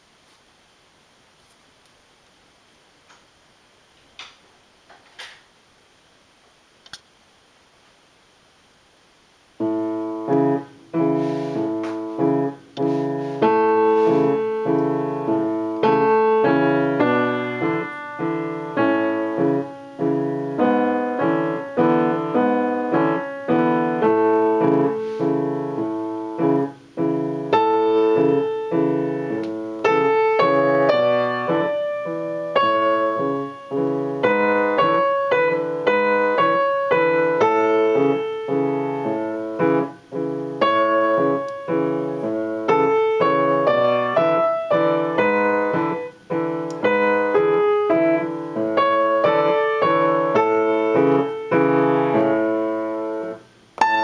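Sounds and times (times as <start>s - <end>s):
piano playing a waltz: 9.6s - 54.0s.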